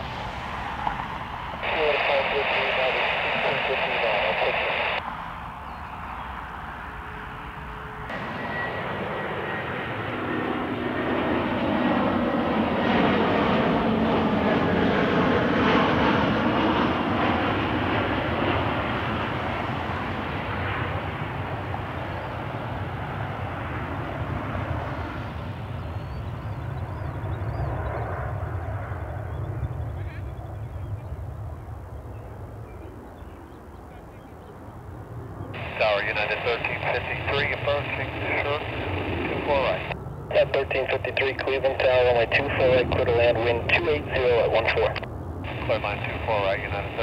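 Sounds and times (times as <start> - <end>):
jet airliner passing overhead: 0.0 - 47.0.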